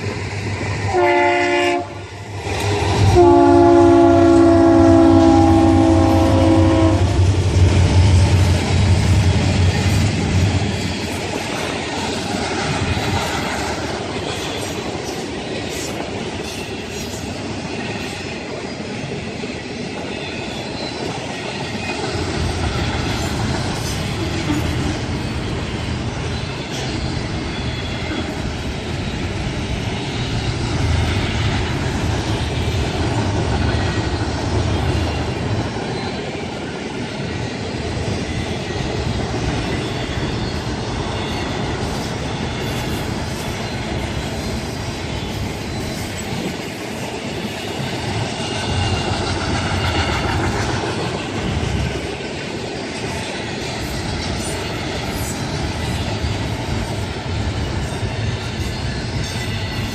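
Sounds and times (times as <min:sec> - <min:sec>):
railcars rumbling and rattling: 0:00.0 - 0:59.9.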